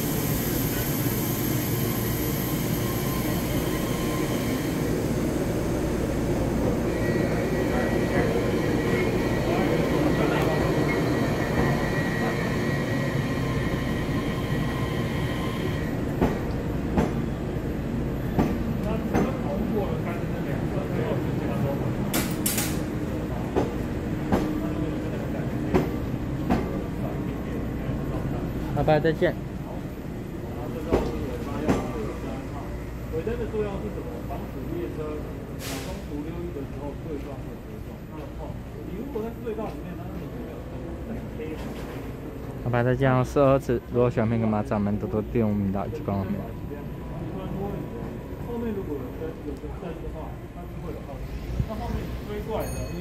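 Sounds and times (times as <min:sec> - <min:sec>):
train rumbling: 0:00.0 - 0:42.9.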